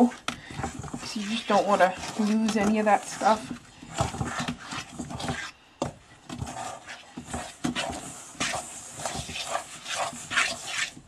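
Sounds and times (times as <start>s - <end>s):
dough squelching by hand: 0.0s - 11.0s.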